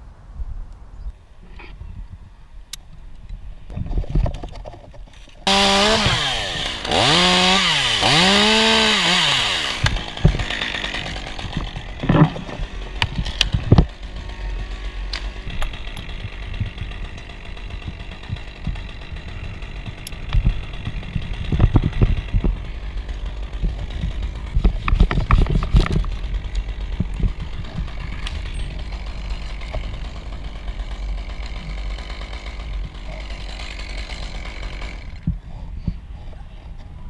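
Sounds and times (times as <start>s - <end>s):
chainsaw running: 5.4s - 35.4s
hand saw cutting wood: 5.4s - 35.4s.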